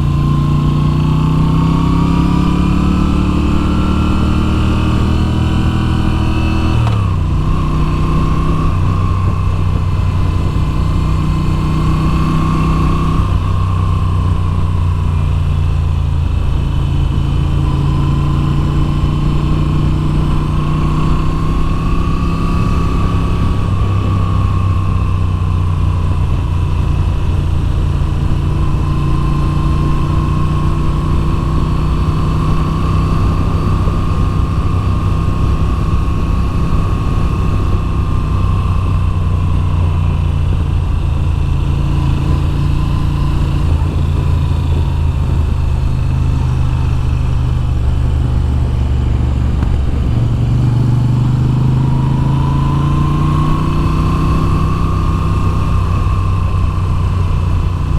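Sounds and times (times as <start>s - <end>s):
motorcycle engine under way: 0.0s - 57.9s.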